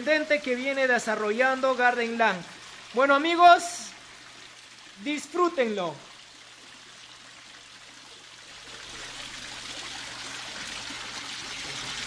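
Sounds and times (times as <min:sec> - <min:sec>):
waterfall splashing into pool: 0:00.0 - 0:12.0.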